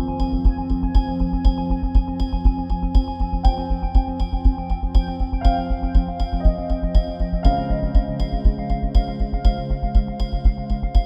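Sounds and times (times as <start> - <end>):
steady low beat: 0.0 - 11.0
sustained synthesizer chords: 0.0 - 11.0.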